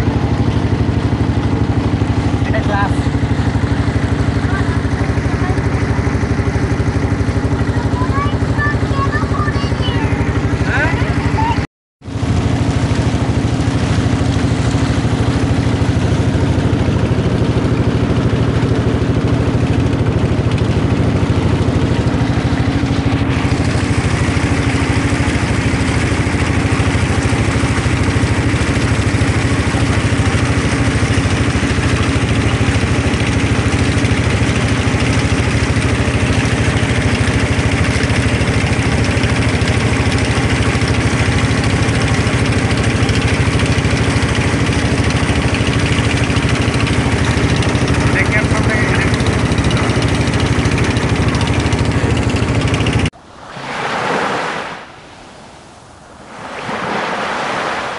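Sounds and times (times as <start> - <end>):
boat engines droning: 0.0 - 57.9
water rushing past hulls: 0.0 - 57.9.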